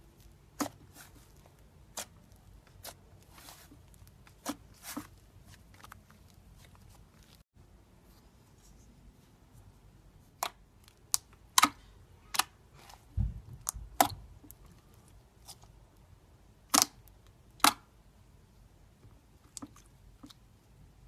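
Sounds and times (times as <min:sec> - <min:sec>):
soft slime squish: 0:00.0 - 0:21.0.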